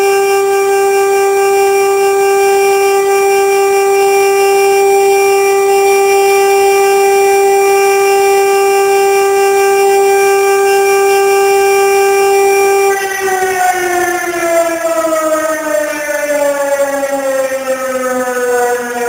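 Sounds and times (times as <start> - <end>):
siren steady tone: 0.0 - 19.0.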